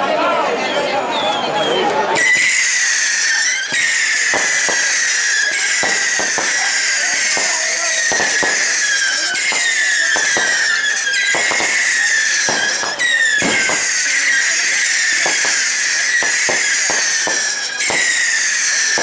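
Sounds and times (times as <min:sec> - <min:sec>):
whistling fireworks: 0:00.2 - 0:19.0
firework cracks and bangs: 0:01.5 - 0:19.0.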